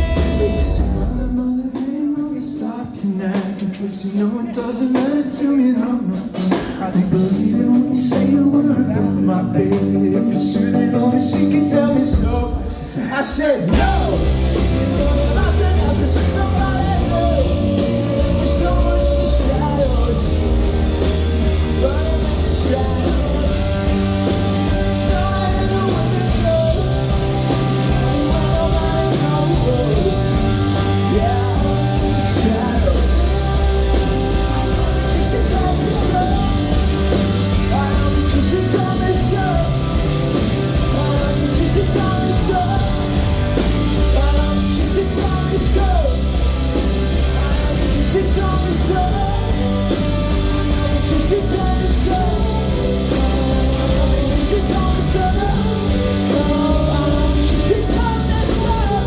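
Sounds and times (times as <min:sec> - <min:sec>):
electric guitars: 0:00.0 - 0:01.9, 0:02.7 - 0:59.0
bass guitar: 0:00.0 - 0:03.7, 0:04.4 - 0:59.0
drums: 0:00.0 - 0:59.0.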